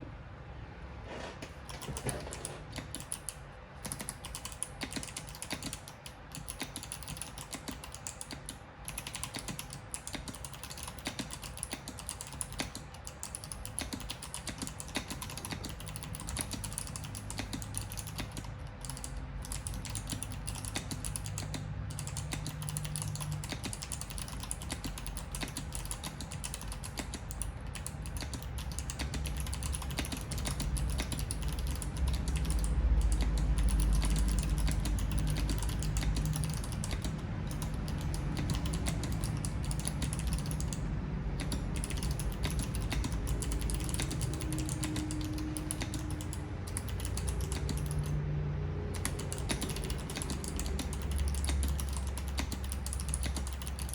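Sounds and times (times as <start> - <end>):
clicky mechanical keyboard typing: 1.4 - 48.2, 48.8 - 53.9.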